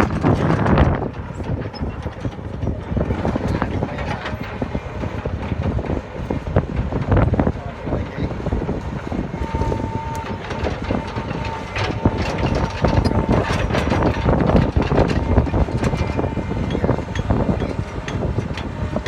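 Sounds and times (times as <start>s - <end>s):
diesel engine rumbling: 0.0s - 19.0s
steady whine: 0.0s - 19.0s
steel tracks clanking: 0.0s - 19.0s.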